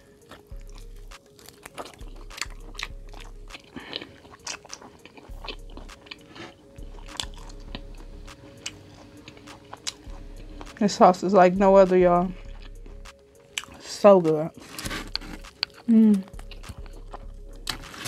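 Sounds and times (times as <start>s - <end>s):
person chewing chicken wing: 0.2s - 10.8s, 12.4s - 13.8s, 14.7s - 18.0s.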